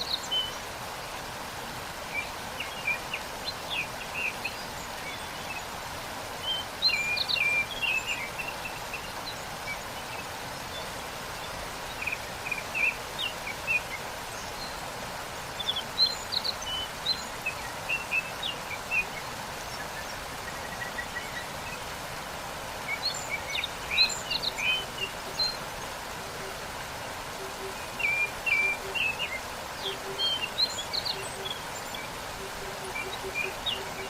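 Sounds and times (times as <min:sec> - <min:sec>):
small birds chirping: 0:00.0 - 0:01.2, 0:01.8 - 0:34.0
waterfall rushing: 0:00.0 - 0:34.0.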